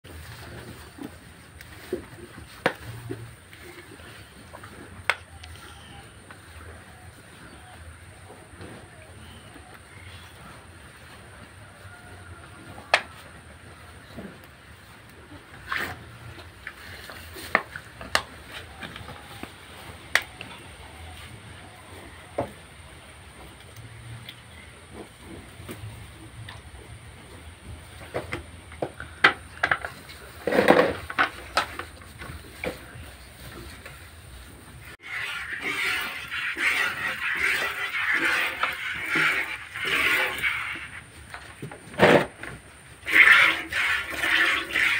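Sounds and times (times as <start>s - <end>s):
low background noise: 0.1s - 44.9s.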